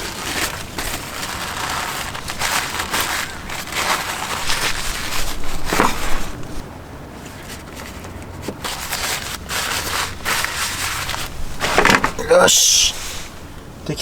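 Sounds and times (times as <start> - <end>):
wrapper rustling and crinkling: 0.0 - 13.5.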